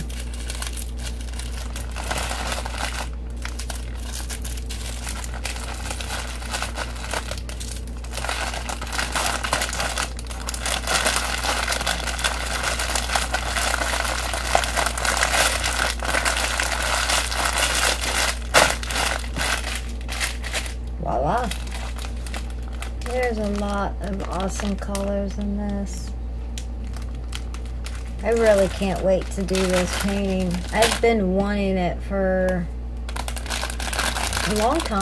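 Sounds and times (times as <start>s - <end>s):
plastic bags crinkling: 0.0s - 31.7s, 33.0s - 35.0s
steady low hum: 0.0s - 35.0s.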